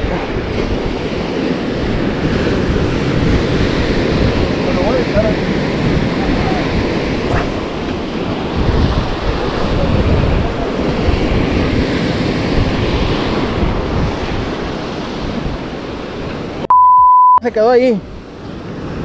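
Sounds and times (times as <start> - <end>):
wind buffeting microphone: 0.0 - 16.6
ocean surf breaking on shore: 0.0 - 16.7, 17.5 - 19.0.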